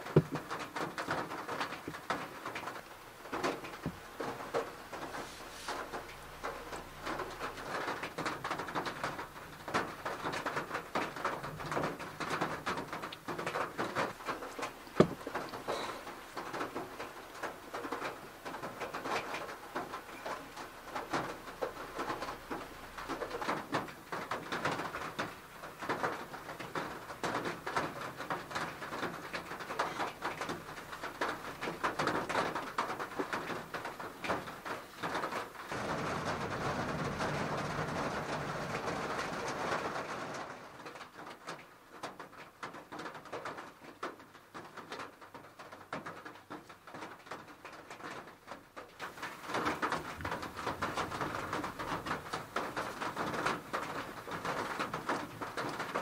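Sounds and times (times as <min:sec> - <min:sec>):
heavy rain on a car roof: 0:00.0 - 0:56.0.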